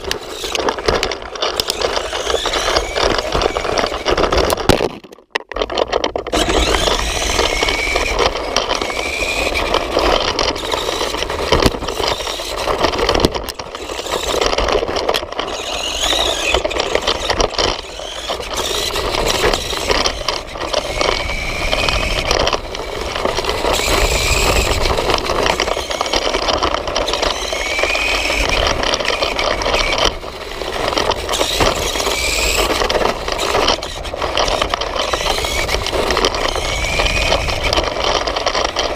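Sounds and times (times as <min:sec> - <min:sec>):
toy motor and gears whining: 0:00.0 - 0:04.8, 0:05.6 - 0:38.9
rattling scraping drive noise: 0:00.0 - 0:38.9.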